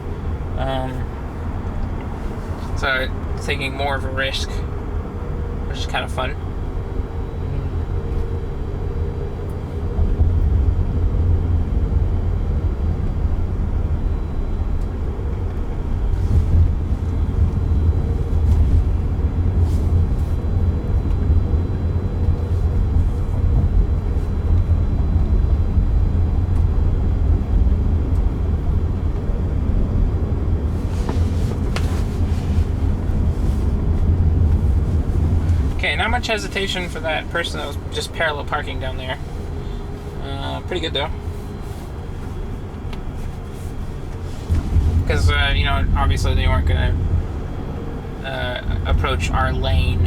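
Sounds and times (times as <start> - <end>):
road and tyre rumble in car: 0.0 - 50.0.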